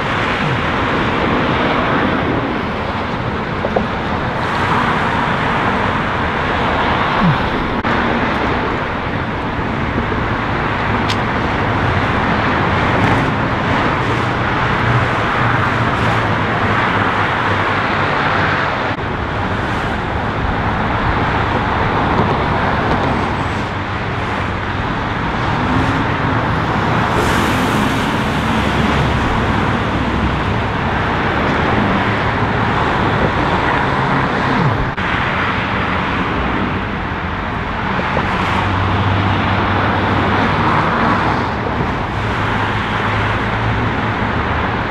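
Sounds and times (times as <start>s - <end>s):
cars passing: 0.0s - 44.9s
freeway traffic noise: 0.0s - 44.9s.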